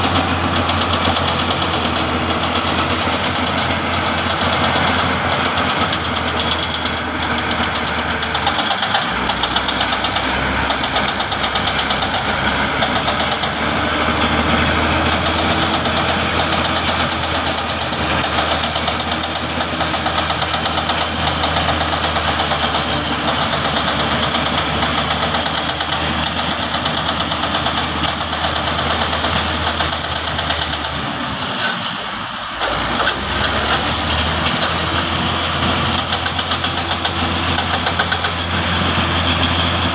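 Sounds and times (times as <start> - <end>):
diesel engine pulsing clatter: 0.0 - 39.9.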